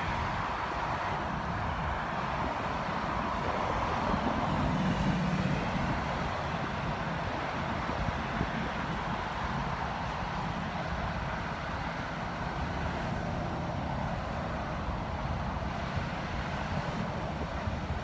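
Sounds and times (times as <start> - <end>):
highway traffic noise: 0.0 - 18.0.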